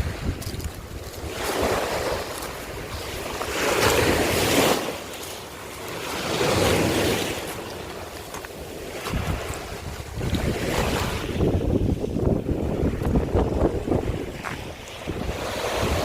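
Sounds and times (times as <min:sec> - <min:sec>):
waves washing over shells: 0:00.0 - 0:16.0.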